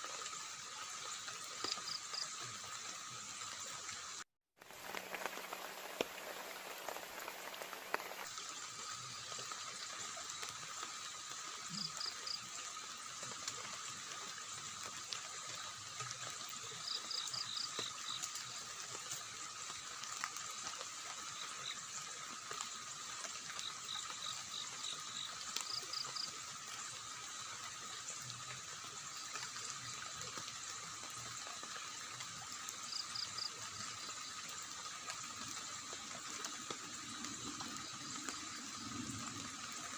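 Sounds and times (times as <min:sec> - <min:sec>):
rain: 0:00.0 - 0:39.9
running water: 0:00.0 - 0:39.9.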